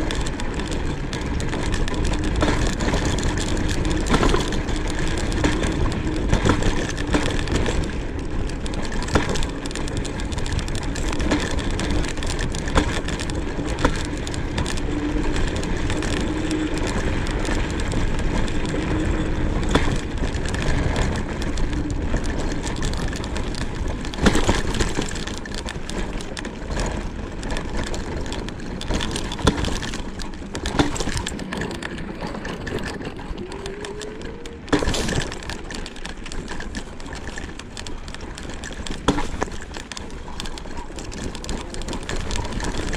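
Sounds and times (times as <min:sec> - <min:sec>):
knocks and rattles over bumps: 0:00.0 - 0:42.9
scooter tyres rumbling on dirt: 0:00.0 - 0:42.9.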